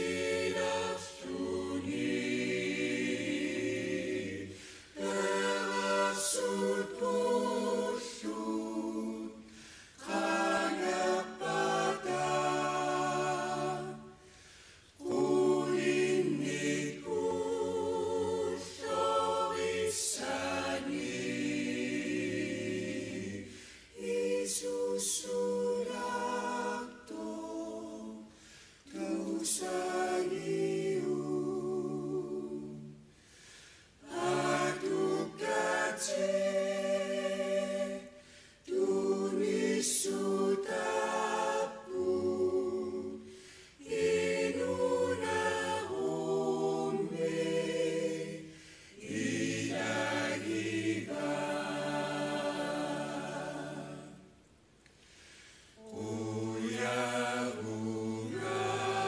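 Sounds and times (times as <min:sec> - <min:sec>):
choir singing unaccompanied: 0:00.0 - 0:33.1, 0:33.9 - 0:54.6, 0:55.8 - 0:59.0.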